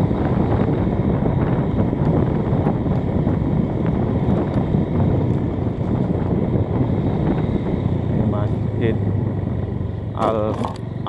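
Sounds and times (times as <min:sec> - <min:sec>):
motorcycle engine and road rumble: 0:00.0 - 0:11.0
wind rushing over microphone: 0:00.0 - 0:11.0.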